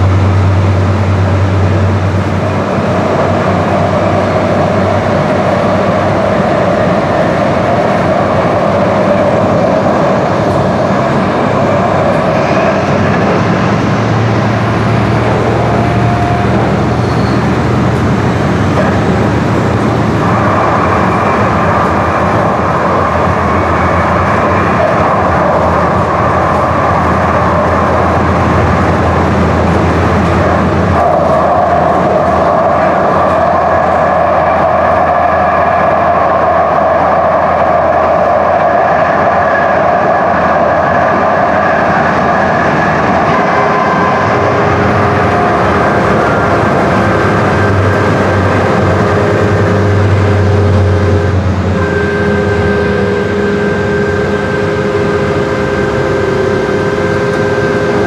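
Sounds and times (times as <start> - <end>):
faint high drifting tones: 0.0 - 58.0
light rail train rumble and hum: 0.0 - 58.0.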